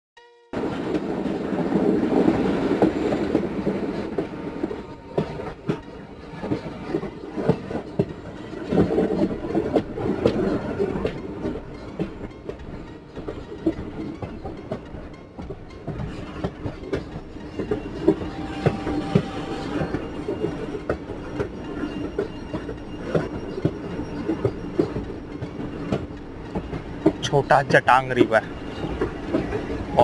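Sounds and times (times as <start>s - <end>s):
train coaches rumbling: 0.6s - 30.0s
wheels clacking over rail joints: 0.6s - 30.0s.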